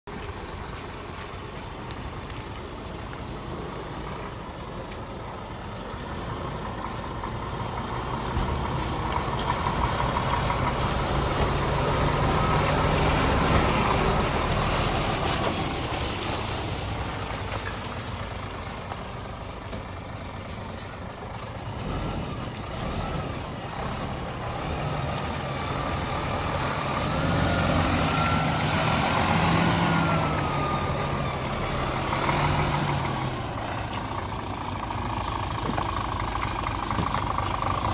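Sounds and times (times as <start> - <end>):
diesel truck engine revving: 3.4 - 37.9.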